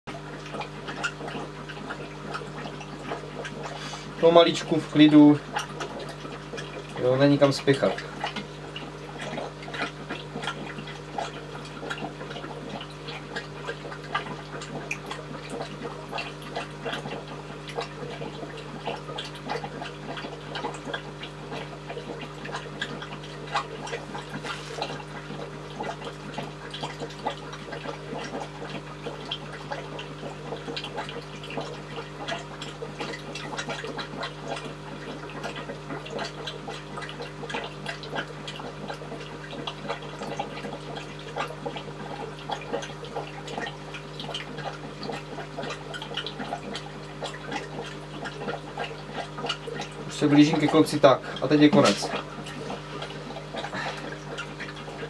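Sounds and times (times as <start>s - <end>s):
water trickling and dripping: 0.1s - 55.0s.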